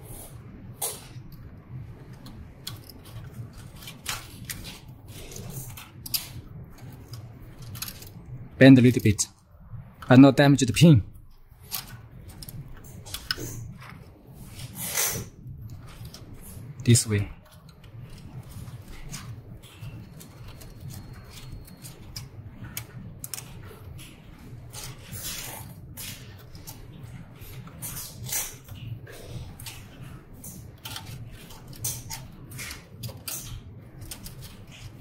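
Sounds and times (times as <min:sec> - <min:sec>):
low steady hum: 0:00.0 - 0:35.0
ribbon cables rustling: 0:01.0 - 0:09.3, 0:10.0 - 0:35.0.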